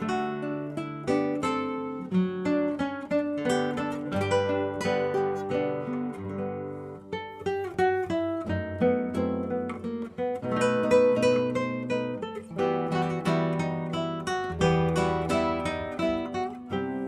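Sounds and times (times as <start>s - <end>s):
acoustic guitar picking and strumming: 0.0s - 17.0s.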